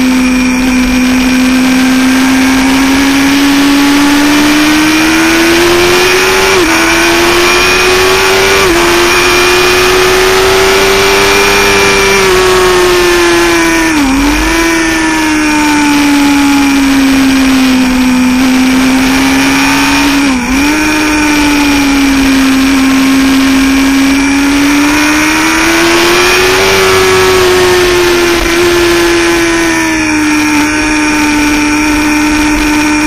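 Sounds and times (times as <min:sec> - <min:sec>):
motorcycle engine running hard: 0:00.0 - 0:33.0.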